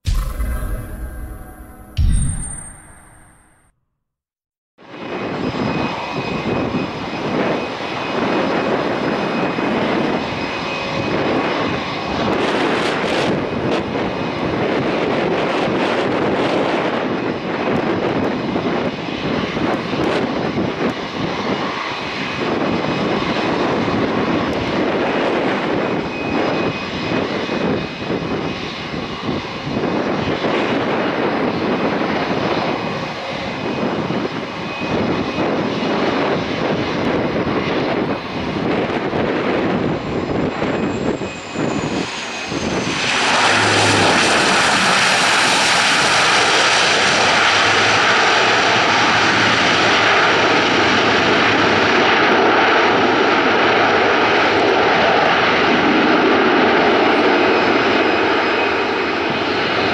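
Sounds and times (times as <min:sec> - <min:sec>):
turboprop engines droning: 0:04.8 - 0:59.9
wind buffeting microphone: 0:04.9 - 0:59.9.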